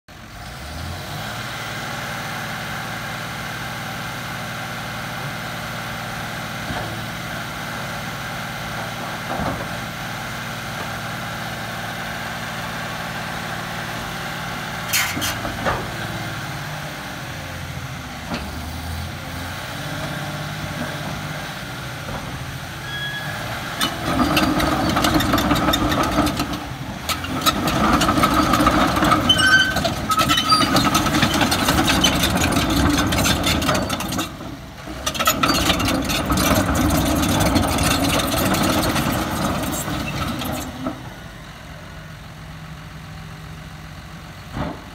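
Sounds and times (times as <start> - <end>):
diesel engine idling: 0.2 - 44.9.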